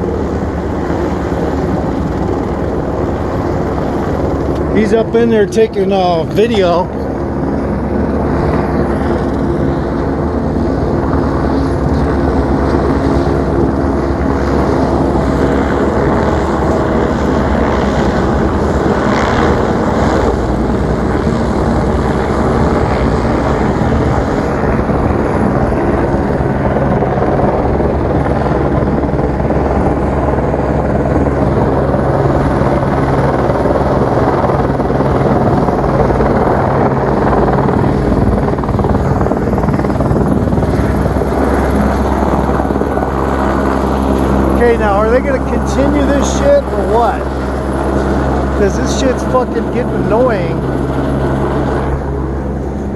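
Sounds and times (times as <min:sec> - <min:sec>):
helicopter engine hum: 0:00.0 - 0:52.9
helicopter rotor chop: 0:00.0 - 0:52.9.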